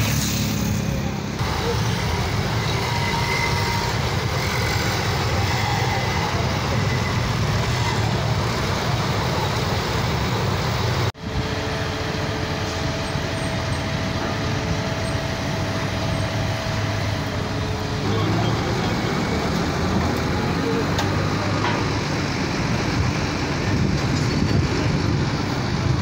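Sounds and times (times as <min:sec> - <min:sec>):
heavy truck engines running: 0:00.0 - 0:26.0
road traffic noise: 0:00.0 - 0:26.0.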